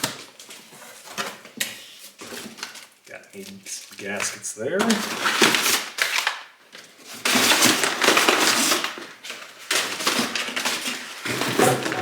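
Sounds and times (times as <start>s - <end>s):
packing material crinkling: 2.2s - 12.0s.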